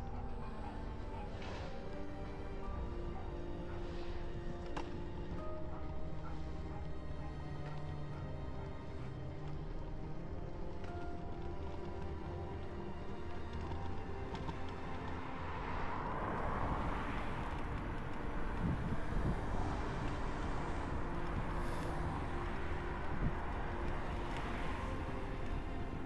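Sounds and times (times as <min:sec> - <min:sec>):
road traffic rumble: 0:00.0 - 0:26.0
vehicles passing: 0:00.0 - 0:26.0.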